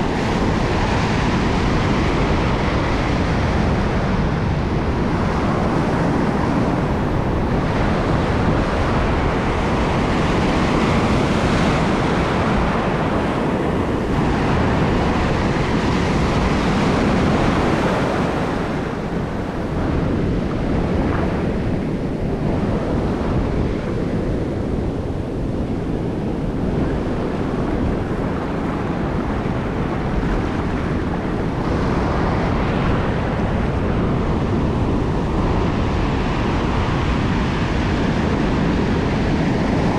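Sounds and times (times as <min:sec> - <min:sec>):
ocean surf breaking: 0:00.0 - 0:39.9
wind on microphone: 0:00.0 - 0:39.9.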